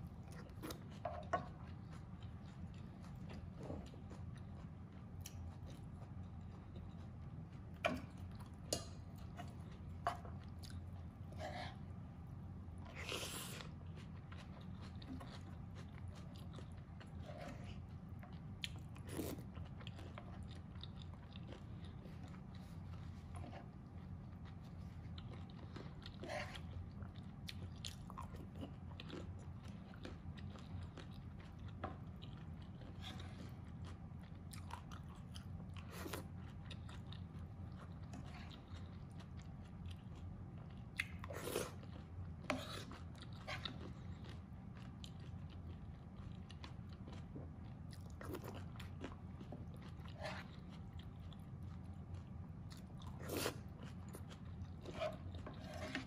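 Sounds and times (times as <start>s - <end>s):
faint low hum: 0.0s - 56.0s
person chewing food: 0.0s - 56.0s.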